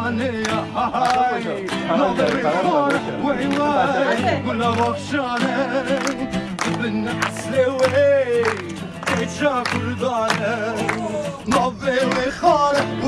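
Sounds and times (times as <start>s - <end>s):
people singing together: 0.0s - 13.0s
hand claps: 0.2s - 13.0s.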